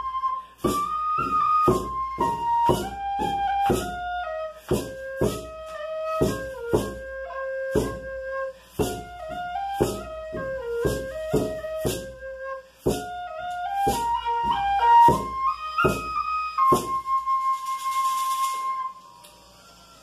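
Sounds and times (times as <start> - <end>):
frame drum beats: 0.0 - 18.6
tin whistle melody: 0.0 - 20.0.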